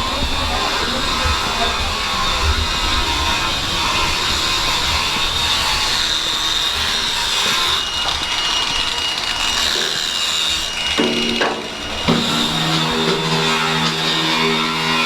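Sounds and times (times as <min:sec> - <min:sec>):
machinery whining: 0:00.0 - 0:15.0.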